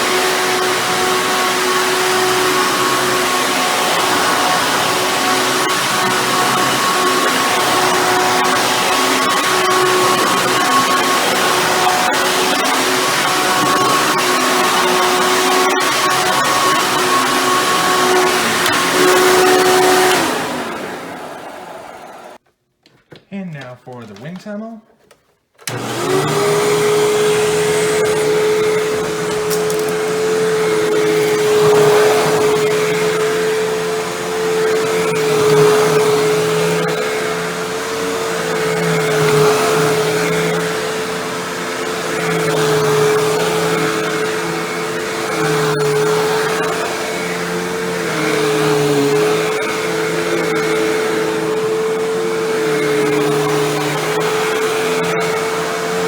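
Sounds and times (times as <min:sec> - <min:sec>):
vacuum cleaner motor whine: 0:00.0 - 0:22.4, 0:25.6 - 0:56.0.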